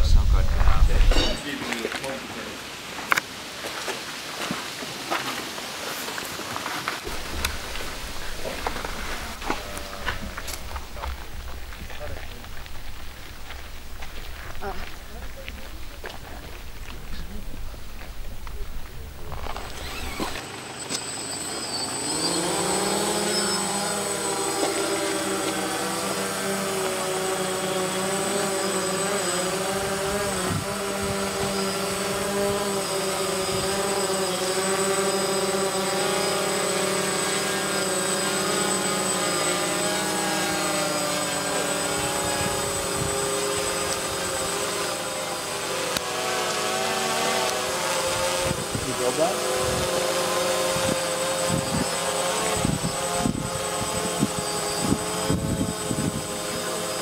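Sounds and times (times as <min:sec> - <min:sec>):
drone propellers whirring: 0:00.0 - 0:01.4, 0:07.0 - 0:57.0.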